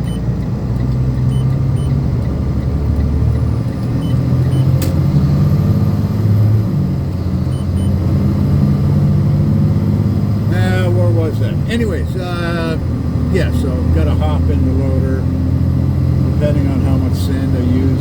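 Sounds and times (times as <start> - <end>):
diesel truck engine from cab: 0.0 - 18.0.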